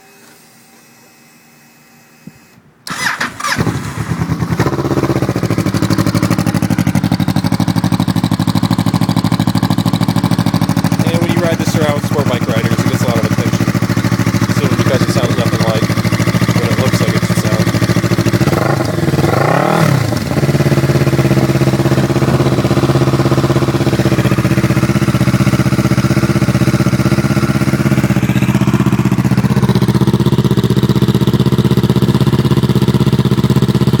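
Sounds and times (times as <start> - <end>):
motorcycle engine idling: 2.9 - 34.0.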